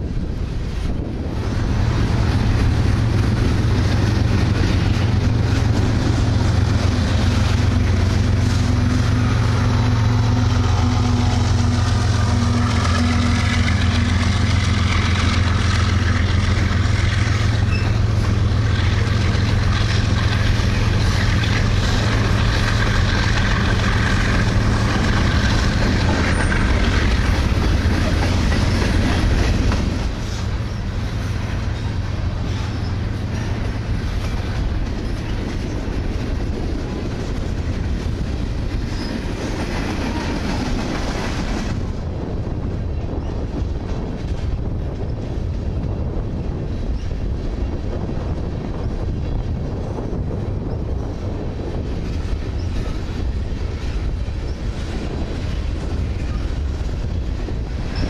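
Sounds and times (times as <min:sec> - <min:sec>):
diesel locomotive engine: 0:00.0 - 0:58.0
freight cars rumbling on rails: 0:00.0 - 0:58.0.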